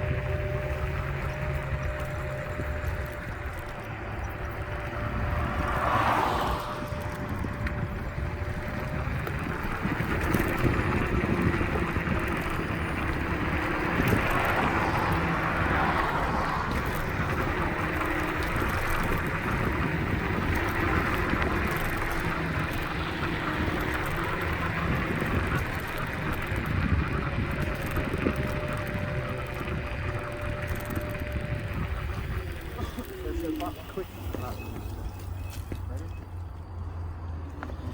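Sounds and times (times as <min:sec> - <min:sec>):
wind buffeting microphone: 0:00.0 - 0:36.2
electric scooter rumble: 0:00.0 - 0:37.9.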